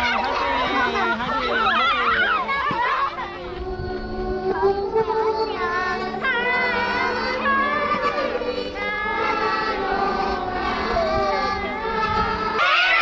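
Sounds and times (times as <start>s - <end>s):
children singing: 0.0s - 13.0s.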